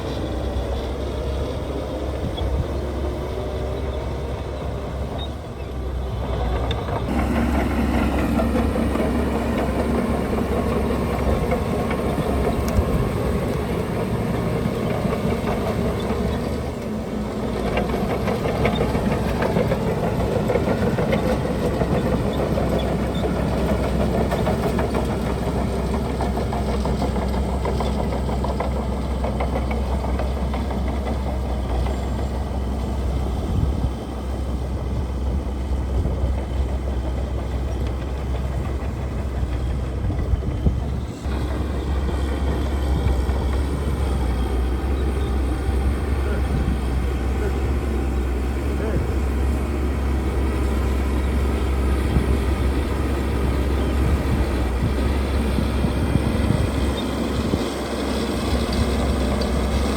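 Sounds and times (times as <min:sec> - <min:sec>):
diesel machinery engine rumble: 0:00.0 - 0:59.9.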